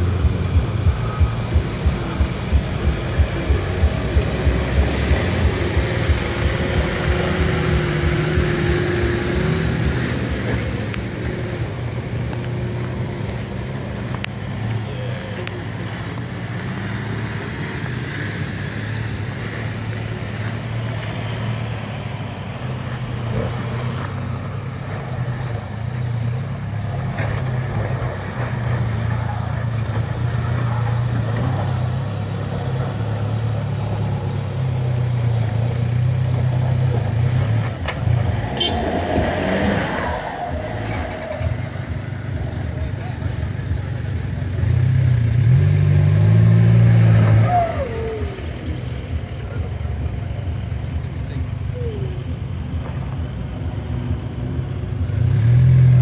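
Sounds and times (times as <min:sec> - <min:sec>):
off-road engines droning: 0:00.0 - 0:56.0.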